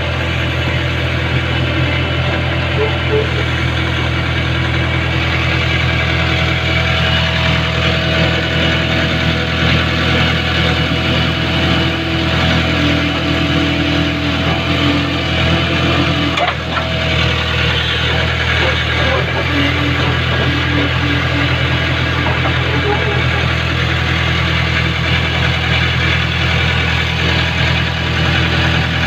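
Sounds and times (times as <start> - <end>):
diesel engine running: 0.0 - 29.0
hydraulic whine: 0.0 - 29.0.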